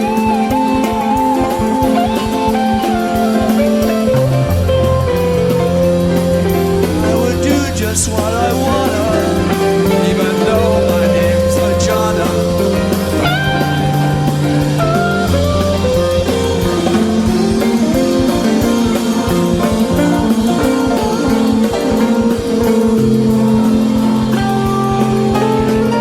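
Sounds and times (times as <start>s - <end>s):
bass line: 0.0s - 26.0s
drum kit: 0.0s - 26.0s
guitar melody: 0.0s - 26.0s.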